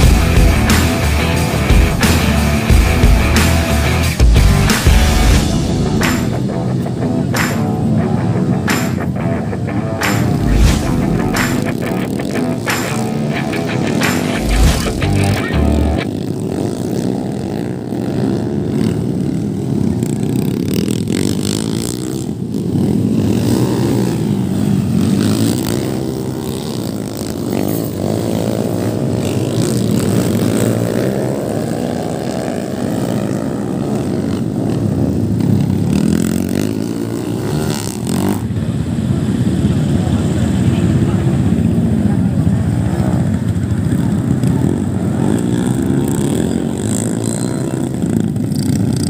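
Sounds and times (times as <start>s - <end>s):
motorcycle engines revving: 0.0s - 49.0s.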